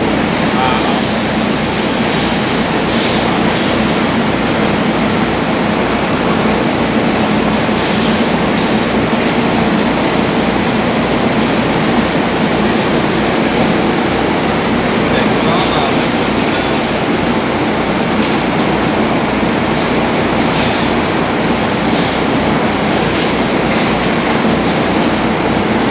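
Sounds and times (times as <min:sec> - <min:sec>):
machinery drone: 0:00.0 - 0:25.9.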